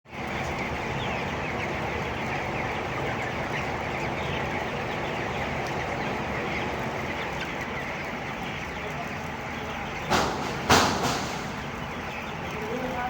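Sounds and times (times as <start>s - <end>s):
chicks peeping: 0.1s - 13.0s.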